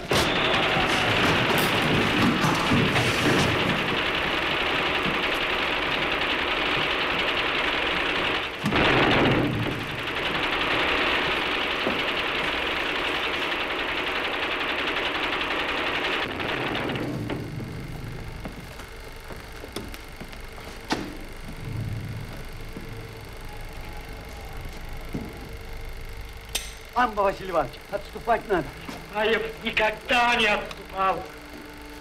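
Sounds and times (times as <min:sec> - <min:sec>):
film projector clattering: 0:00.0 - 0:21.6, 0:25.0 - 0:32.0.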